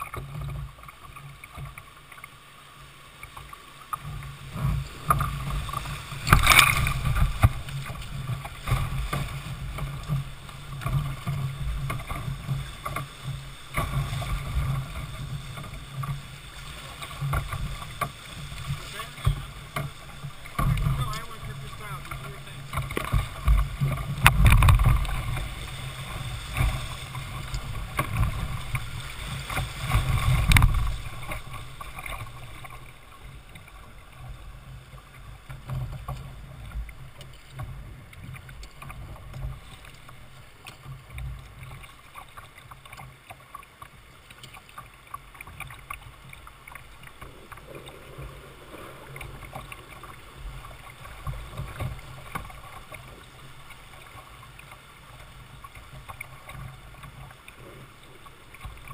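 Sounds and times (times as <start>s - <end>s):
river rapids splashing against kayak: 0.0s - 58.9s.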